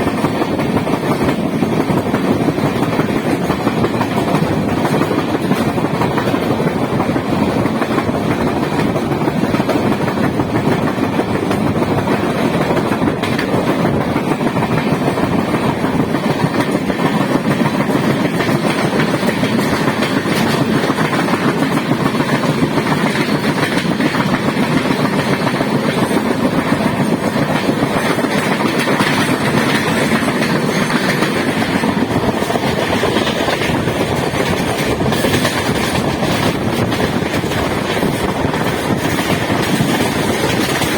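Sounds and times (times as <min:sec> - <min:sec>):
train wheels on track: 0:00.0 - 0:40.9.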